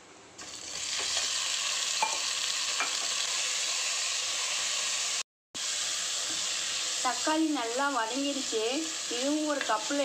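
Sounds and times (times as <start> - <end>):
food sizzling in hot oil: 0.4 - 10.0.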